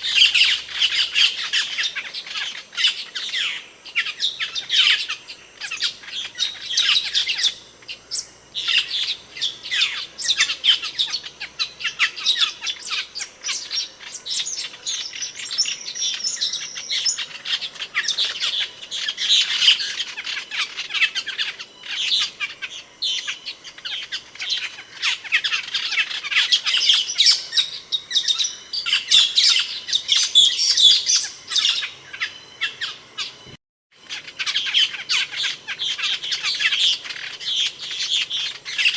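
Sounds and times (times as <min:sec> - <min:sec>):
starlings chirping and squawking: 0:00.0 - 0:38.9.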